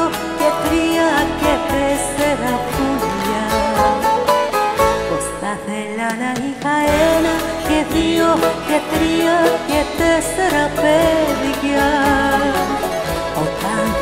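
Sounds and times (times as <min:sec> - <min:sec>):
amplified backing music with beat: 0:00.0 - 0:14.0
woman singing into microphone: 0:00.0 - 0:14.0.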